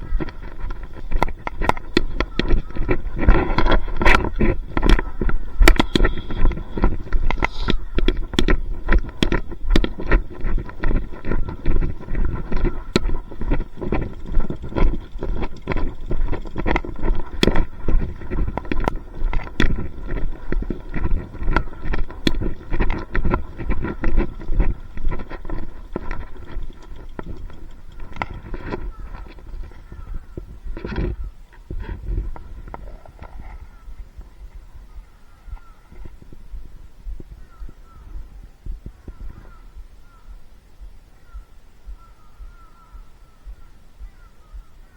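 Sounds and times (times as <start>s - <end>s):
constant low rumble: 0.0s - 44.9s
footsteps with sharp clicks: 0.0s - 44.9s.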